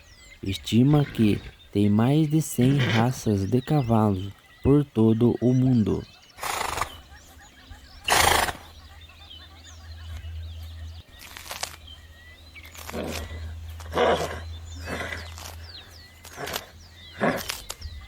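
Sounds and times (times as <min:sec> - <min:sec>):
steady low hum: 0:00.0 - 0:18.0
horses snorting: 0:00.4 - 0:04.3, 0:05.8 - 0:18.0.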